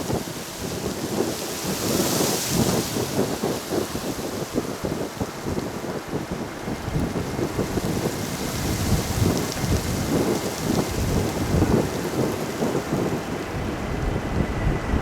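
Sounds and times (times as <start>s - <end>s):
gusty wind buffeting microphone: 0.0s - 15.0s.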